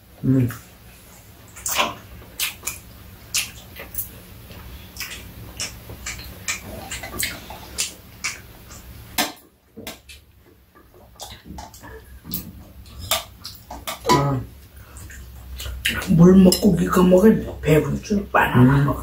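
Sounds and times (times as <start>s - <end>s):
people chewing: 0.5s - 9.2s, 9.8s - 19.0s.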